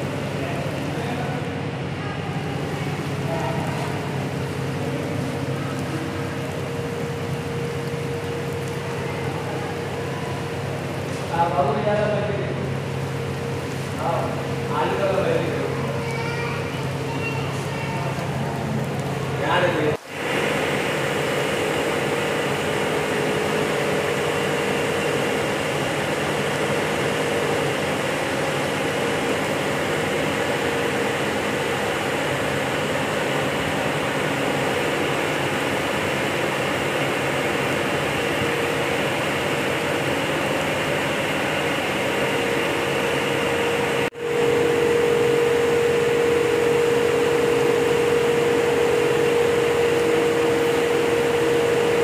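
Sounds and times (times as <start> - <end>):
aquarium aerator humming: 0.0 - 52.0.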